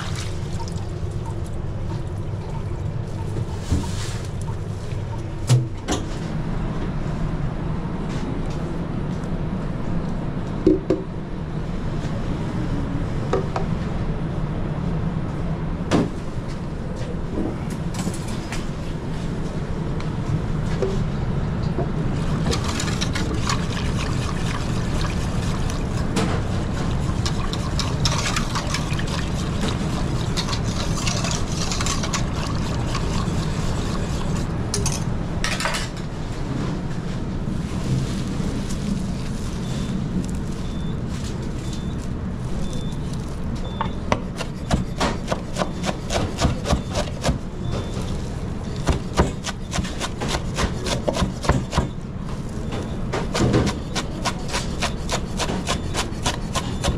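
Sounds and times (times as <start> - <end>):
low kitchen hum: 0.0 - 56.9.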